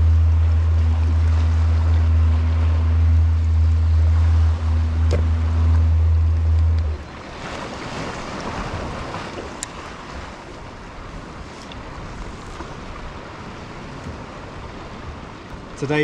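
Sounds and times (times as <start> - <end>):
water lapping against hull: 0.0 - 16.0
wind on microphone: 0.0 - 16.0.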